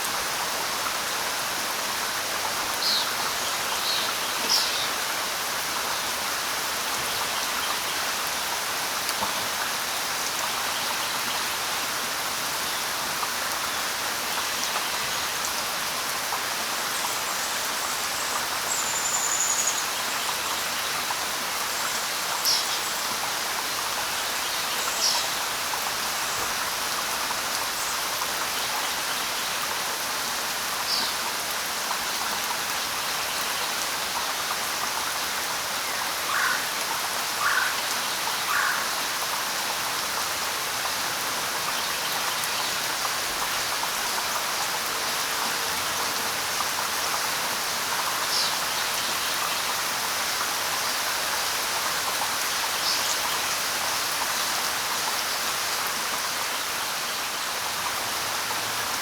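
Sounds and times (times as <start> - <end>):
light rain on leaves: 0.0 - 59.0.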